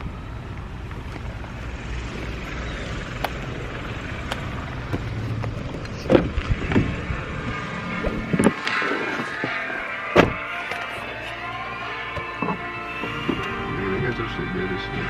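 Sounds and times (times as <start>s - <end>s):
car low rumble: 0.0s - 15.0s.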